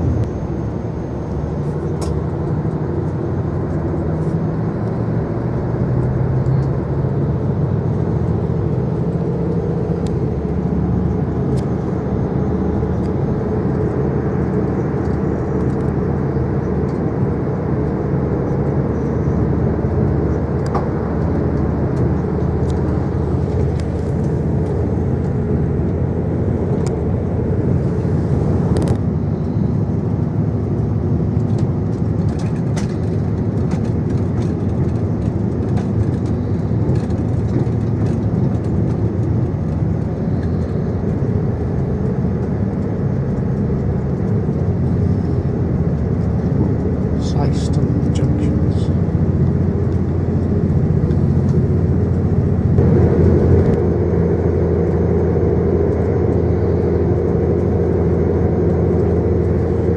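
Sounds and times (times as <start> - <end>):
diesel engine running: 0.0 - 59.9
train wheels rumbling on rails: 0.0 - 59.9.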